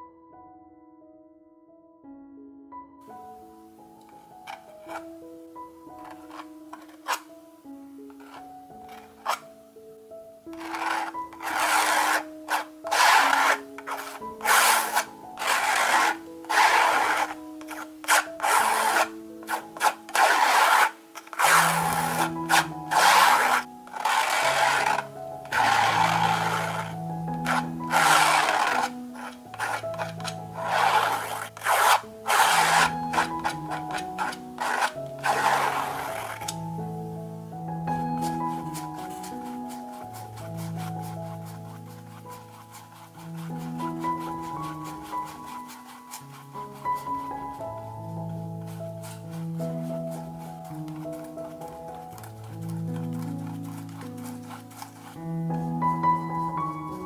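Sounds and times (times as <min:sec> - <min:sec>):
soft background music: 0:00.0 - 0:57.0
palette knife scraping canvas: 0:04.4 - 0:05.1, 0:06.0 - 0:07.3, 0:08.1 - 0:09.5, 0:10.5 - 0:36.6, 0:38.2 - 0:55.2.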